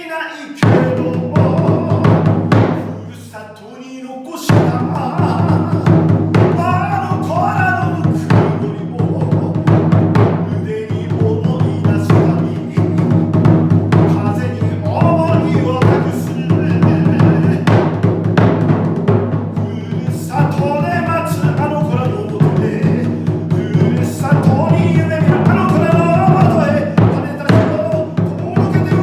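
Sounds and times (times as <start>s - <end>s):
folk drum strikes: 0.6s - 3.1s, 4.4s - 29.0s.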